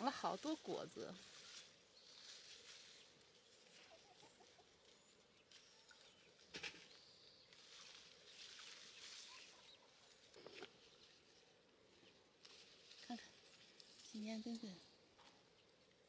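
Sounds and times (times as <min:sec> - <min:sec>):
leaves and branches rustling: 0:00.0 - 0:16.0.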